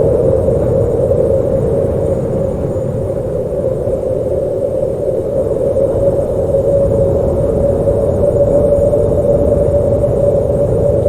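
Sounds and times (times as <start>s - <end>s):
howling wind: 0.0s - 11.0s.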